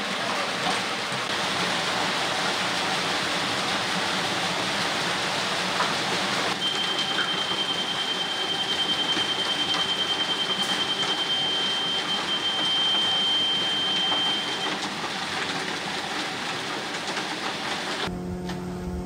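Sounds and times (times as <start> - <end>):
wet concrete pouring down chute: 0.0 - 18.1.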